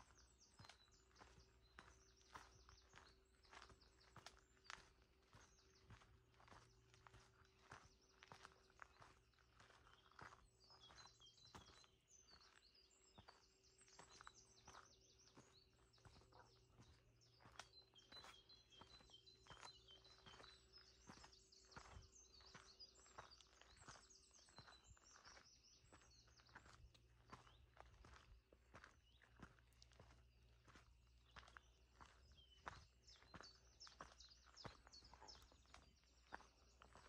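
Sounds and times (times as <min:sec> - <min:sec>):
footsteps on a path: 0:00.0 - 0:37.0
small birds chirping: 0:00.0 - 0:37.0.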